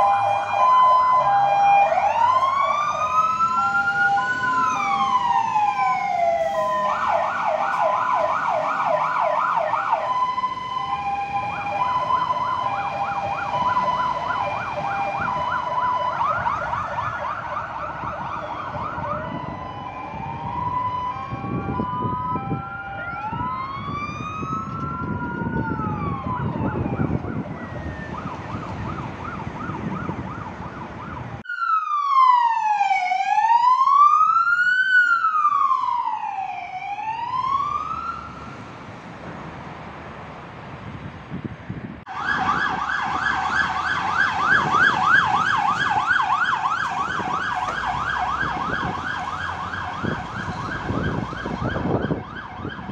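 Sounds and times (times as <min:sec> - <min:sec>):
truck engine rumble: 0:00.0 - 0:31.4, 0:37.1 - 0:52.9
police car wailing siren: 0:00.0 - 0:38.8, 0:42.1 - 0:52.9
fire engine sirens: 0:00.0 - 0:52.9.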